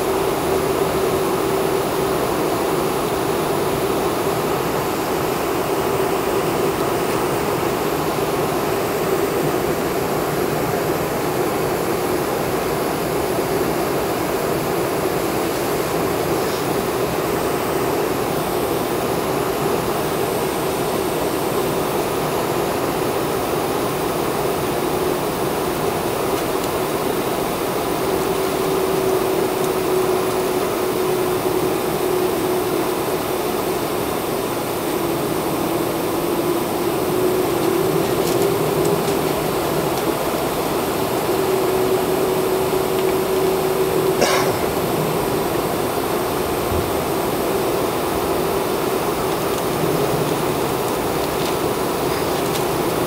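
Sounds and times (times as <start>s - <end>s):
faint steady hum: 0.0s - 53.0s
jet engines running steadily: 0.0s - 53.0s.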